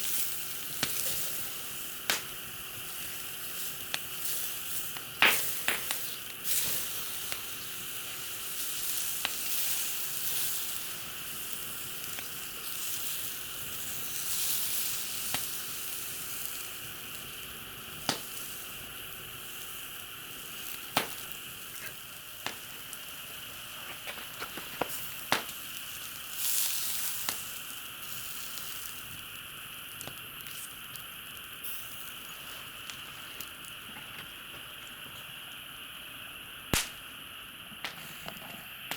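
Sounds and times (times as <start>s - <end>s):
food sizzling in a pan: 0.0s - 35.9s
fire crackles and pops: 0.0s - 38.9s.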